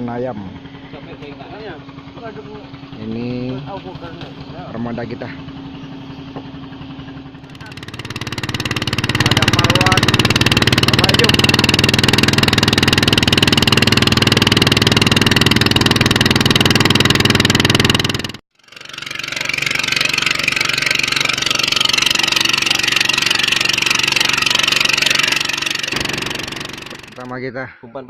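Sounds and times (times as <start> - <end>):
small boat engine running: 0.0 - 27.5.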